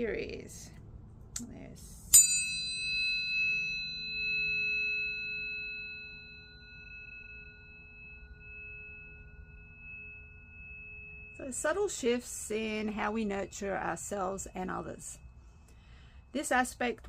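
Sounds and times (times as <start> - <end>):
tuning fork ringing: 2.1 - 17.0.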